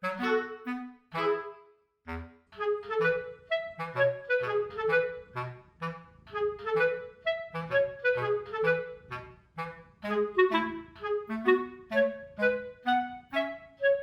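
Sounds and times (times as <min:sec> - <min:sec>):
light woodwind tune over bass: 0:00.0 - 0:14.0.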